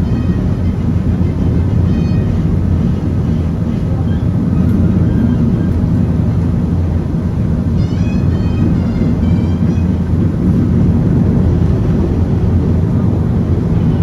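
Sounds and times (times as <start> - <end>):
funicular car rumbling: 0.0 - 14.0.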